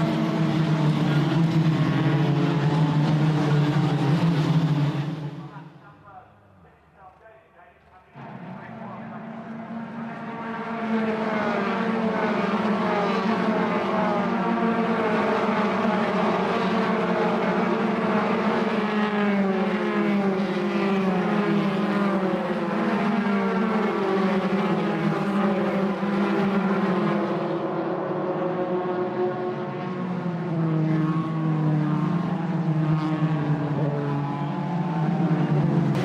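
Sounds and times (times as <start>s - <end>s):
race car engines accelerating: 0.0s - 6.1s, 7.8s - 36.0s.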